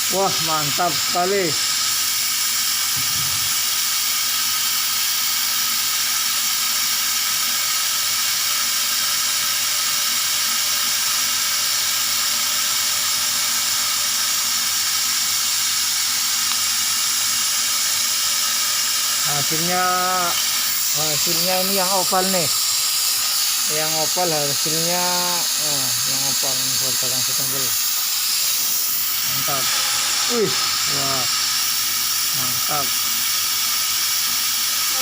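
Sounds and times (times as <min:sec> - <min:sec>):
laser cutter hiss: 0:00.0 - 0:35.0.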